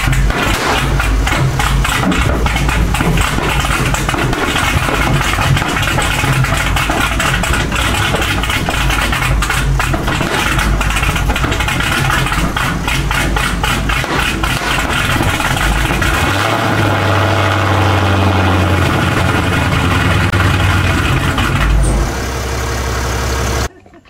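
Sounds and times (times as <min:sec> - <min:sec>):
car engine idling loudly: 0:00.0 - 0:23.7.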